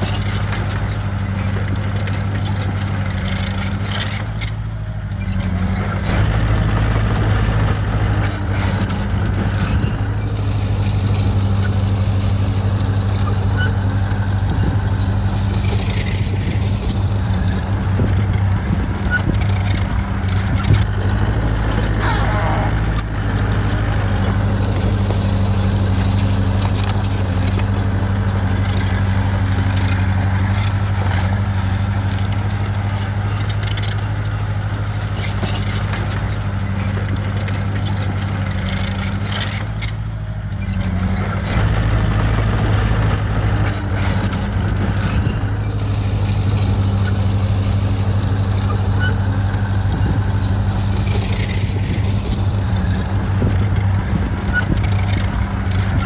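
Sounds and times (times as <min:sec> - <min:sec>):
heavy machine engine running: 0:00.0 - 0:56.0
metallic rattling and clanking: 0:00.0 - 0:56.0.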